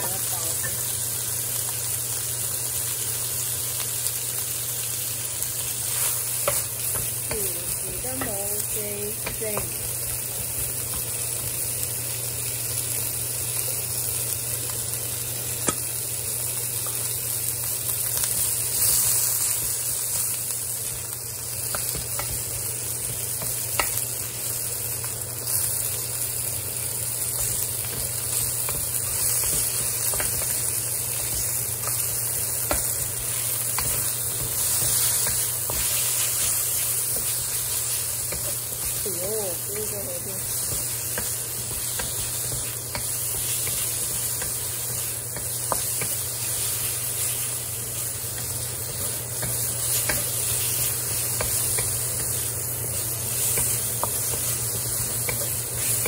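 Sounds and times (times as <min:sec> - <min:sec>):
meat sizzling in a wok: 0:00.0 - 0:56.0.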